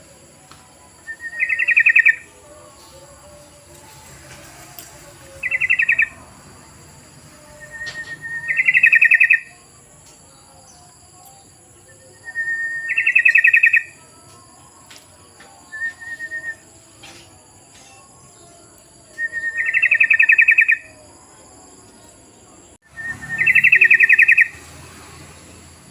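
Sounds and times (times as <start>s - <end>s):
bulbul singing: 0.0s - 25.9s.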